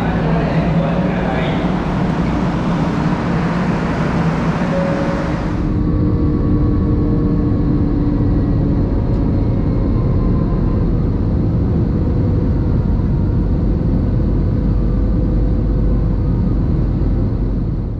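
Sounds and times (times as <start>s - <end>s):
faint steady hums: 0.0s - 17.9s
train rumbling at speed: 0.0s - 17.9s.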